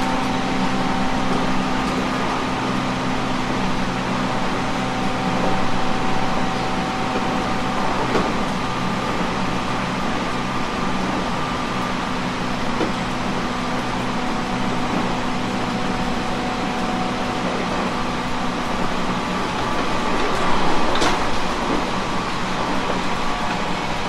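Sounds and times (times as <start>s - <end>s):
train hum and whine: 0.0s - 24.0s.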